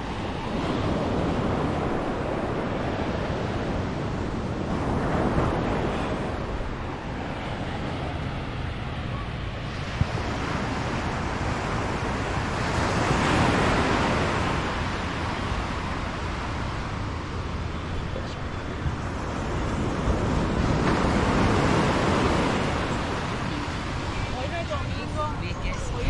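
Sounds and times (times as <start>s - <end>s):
sea waves breaking on beach: 0.0s - 26.0s.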